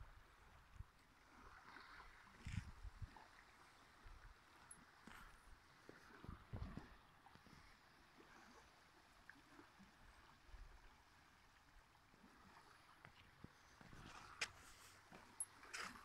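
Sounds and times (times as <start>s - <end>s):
water lapping against rock: 1.1s - 16.0s.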